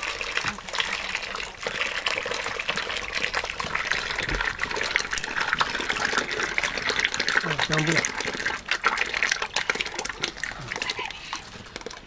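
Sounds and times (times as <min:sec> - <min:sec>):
thick liquid gushing and splashing: 0:00.0 - 0:12.0.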